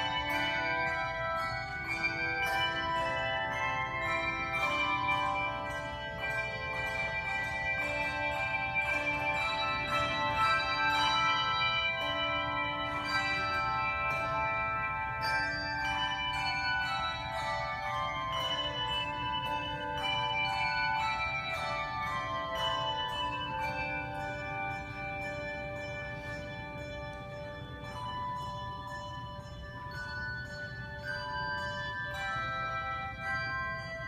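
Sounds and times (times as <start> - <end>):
handbell choir playing: 0.0 - 34.0.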